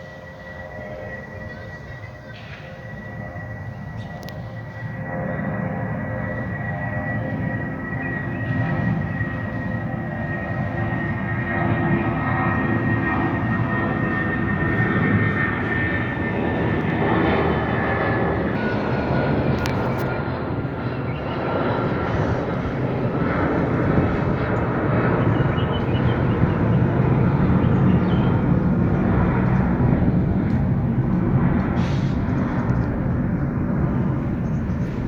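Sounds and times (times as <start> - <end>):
jet engines rushing: 0.0 - 35.0
thin high engine whine: 0.0 - 35.0.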